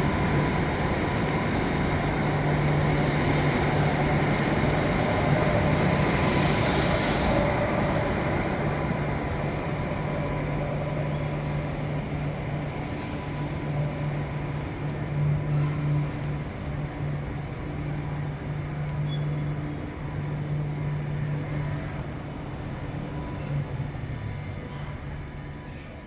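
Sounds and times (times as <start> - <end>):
faint high whine: 0.0 - 26.0
train interior hum and rumble: 0.0 - 26.0.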